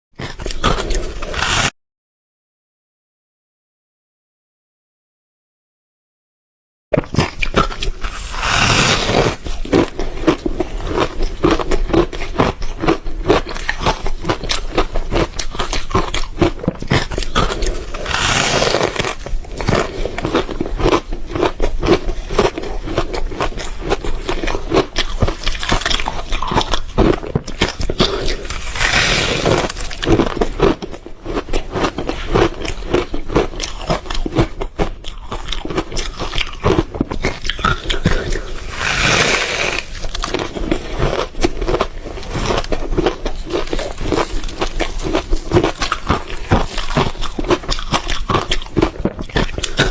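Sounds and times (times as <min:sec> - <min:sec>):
ice crunching while chewed: 0:00.2 - 0:01.7, 0:07.0 - 0:49.9.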